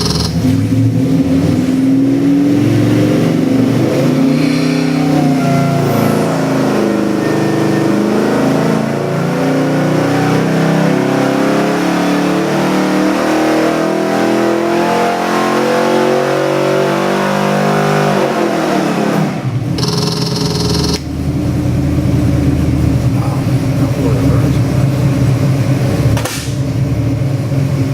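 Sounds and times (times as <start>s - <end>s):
engine revving: 0.0s - 27.9s.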